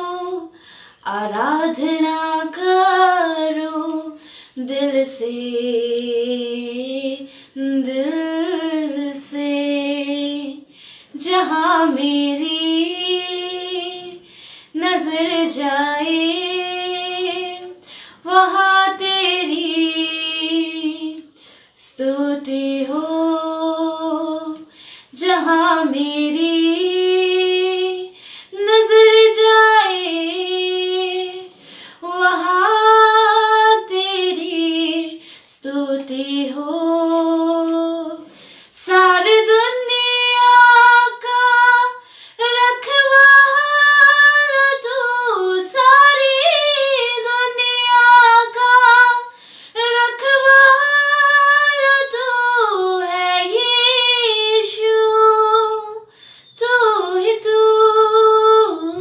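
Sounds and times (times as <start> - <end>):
woman singing unaccompanied: 0.0 - 59.0.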